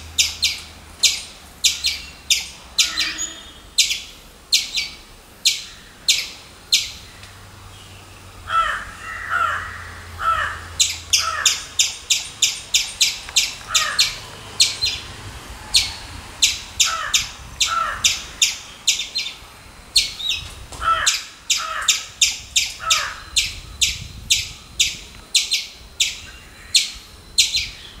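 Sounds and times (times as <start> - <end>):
drawn-out squirrel calls: 0.0 - 7.2, 8.4 - 28.0
squirrel chipping calls: 0.0 - 7.4, 8.5 - 15.1, 15.7 - 27.8.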